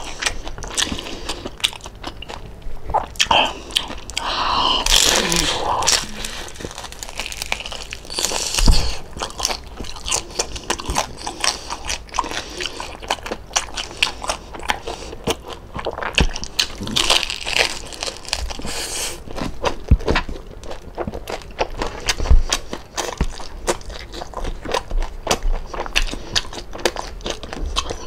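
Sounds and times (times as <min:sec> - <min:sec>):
crunching and chewing crispy pork: 0:00.0 - 0:28.0.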